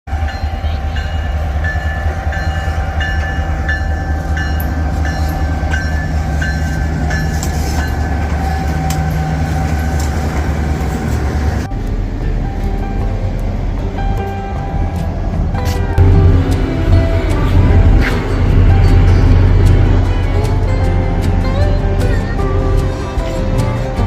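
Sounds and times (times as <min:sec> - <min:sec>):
train rumbling on rails: 0:00.1 - 0:24.0.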